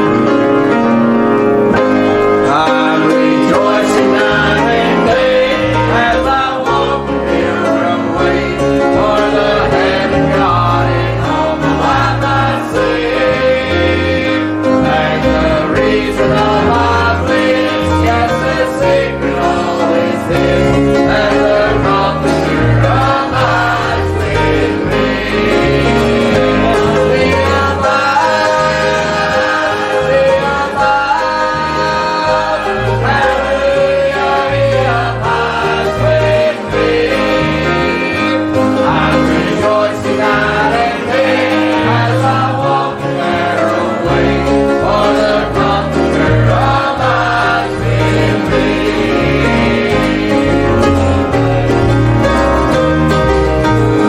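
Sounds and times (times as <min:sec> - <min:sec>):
gospel choir singing: 0:00.0 - 0:54.0
instrumental accompaniment with bass: 0:00.0 - 0:54.0.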